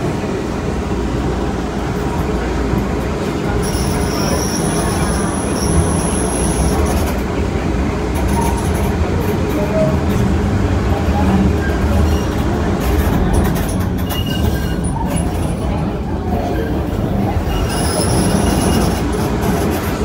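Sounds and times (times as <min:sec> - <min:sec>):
light-rail train rumbling on track: 0:00.0 - 0:20.0.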